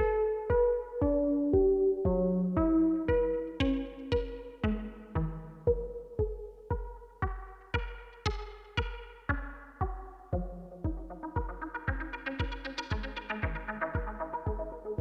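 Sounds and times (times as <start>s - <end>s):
low steady synth bass: 0.0s - 15.0s
synthesizer plucked notes: 0.0s - 15.0s.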